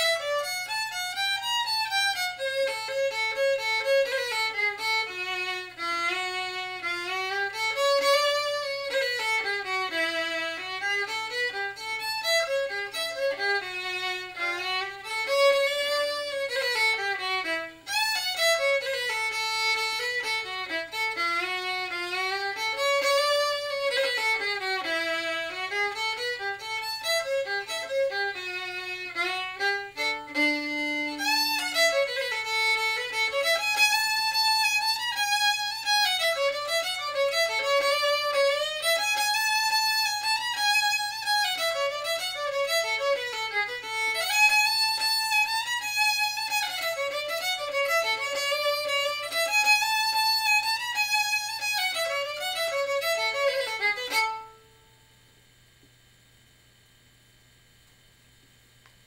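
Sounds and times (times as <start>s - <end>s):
solo fiddle playing lively tune: 0.0s - 54.6s.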